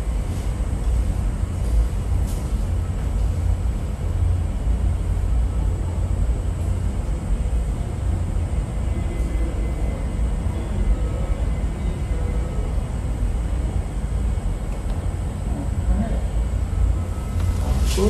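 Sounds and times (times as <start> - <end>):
faint high whine: 0.0 - 18.0
low room rumble: 0.0 - 18.0.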